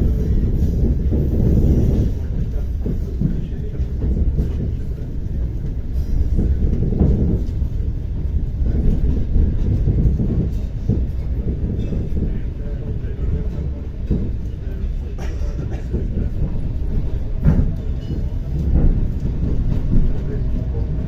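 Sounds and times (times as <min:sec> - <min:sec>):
track knocks: 0:00.0 - 0:21.0
train wheels rumbling: 0:00.0 - 0:21.0.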